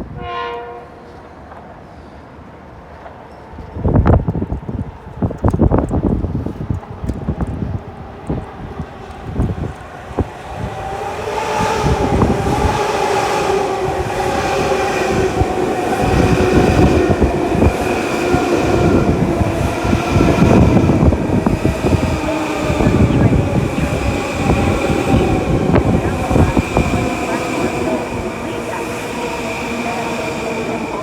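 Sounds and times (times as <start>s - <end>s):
train passing: 0.0s - 31.0s.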